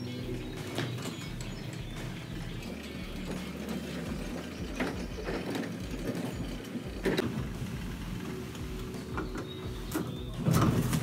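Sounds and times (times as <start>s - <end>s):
garage door opener humming: 0.0s - 11.0s
garage door rolling in tracks: 0.0s - 11.0s.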